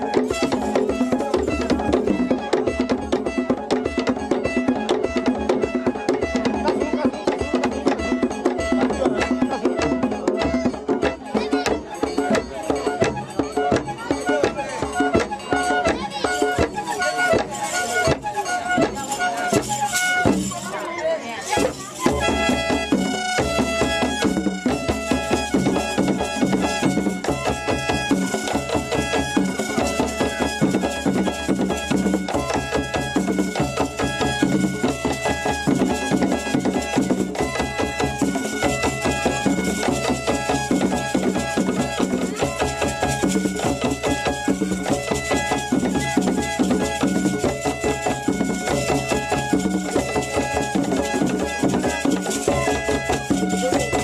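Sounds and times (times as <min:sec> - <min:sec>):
fast steady drumming: 0:00.0 - 0:54.0.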